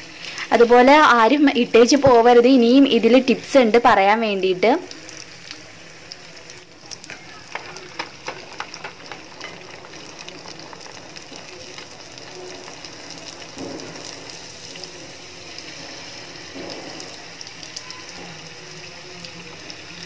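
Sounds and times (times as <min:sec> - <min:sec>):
deep-frying sizzle with crackles: 0:00.0 - 0:20.0.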